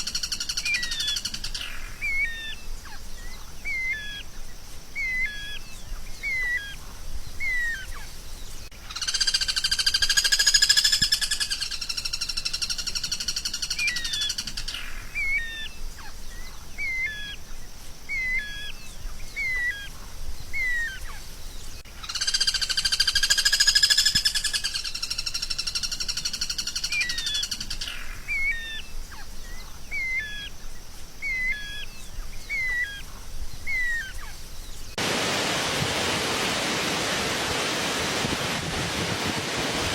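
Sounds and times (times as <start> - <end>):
songbird chirps: 0.0 - 35.0.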